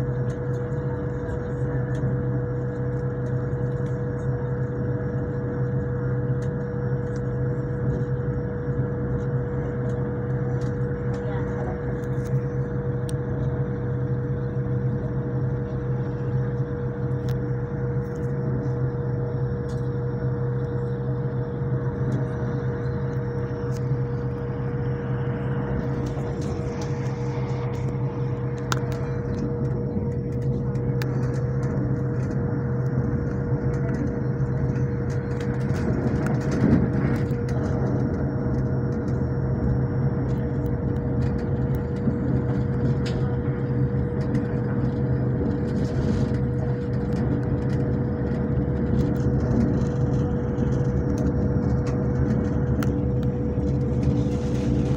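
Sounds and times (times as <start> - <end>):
train carriage drone and rumble: 0.0 - 54.9.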